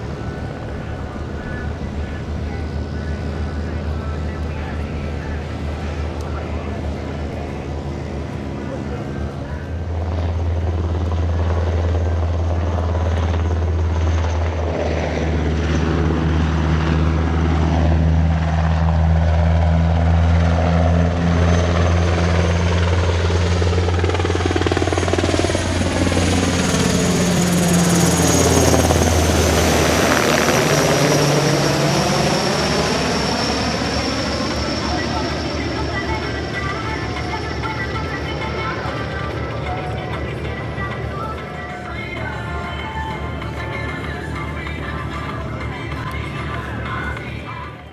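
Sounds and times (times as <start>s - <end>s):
helicopter flying overhead: 0.0s - 47.9s.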